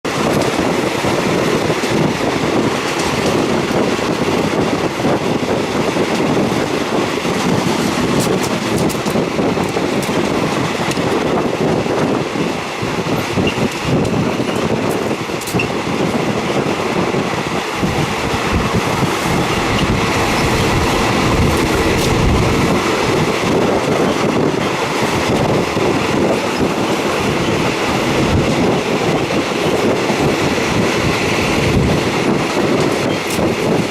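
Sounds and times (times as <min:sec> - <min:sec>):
train wheels rumbling on rails: 0:00.0 - 0:33.9
rail joint clacks: 0:00.1 - 0:33.9.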